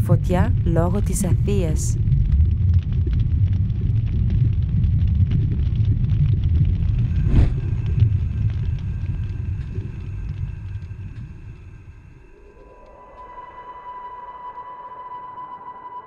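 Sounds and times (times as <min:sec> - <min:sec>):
deep rumble of large fire: 0:00.0 - 0:13.5
fire crackling: 0:00.2 - 0:14.3.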